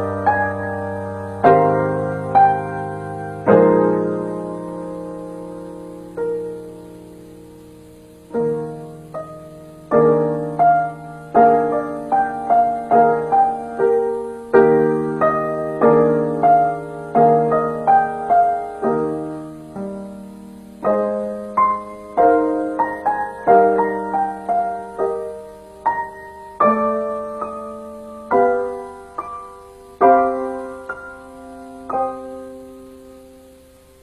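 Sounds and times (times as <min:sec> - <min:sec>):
slow gentle piano piece: 0:00.0 - 0:34.0.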